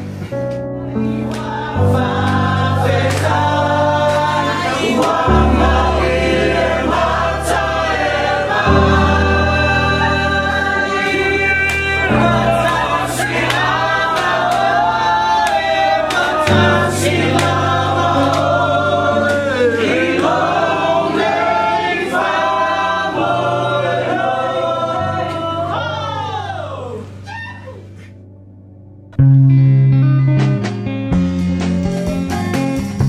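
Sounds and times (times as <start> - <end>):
choir singing over low chords: 0.0 - 27.2.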